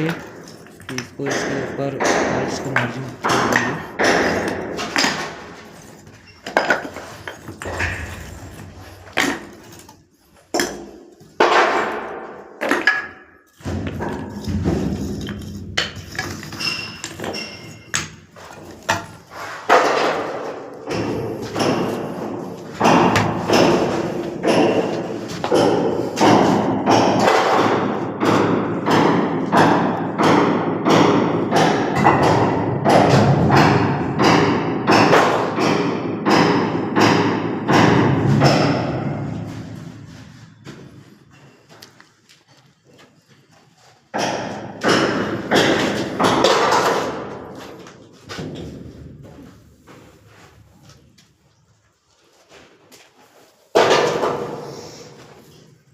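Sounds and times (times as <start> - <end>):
hand tools knocking mortar and tiles: 0.0 - 41.8, 44.0 - 50.0, 53.7 - 55.2.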